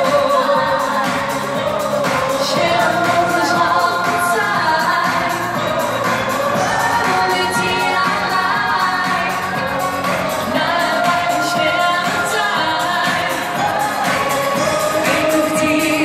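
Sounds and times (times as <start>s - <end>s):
pop backing music: 0.0s - 16.0s
woman singing into a microphone: 0.0s - 16.0s.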